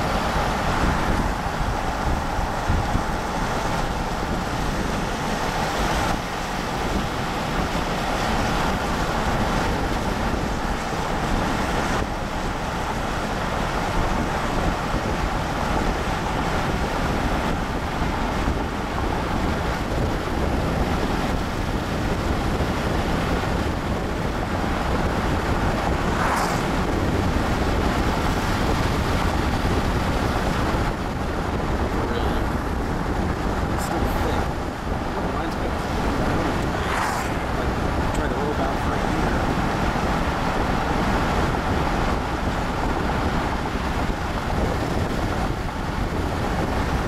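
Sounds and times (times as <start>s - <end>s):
car road noise: 0.0s - 47.0s
wind buffeting microphone: 0.0s - 47.0s
wind rush: 0.0s - 47.0s.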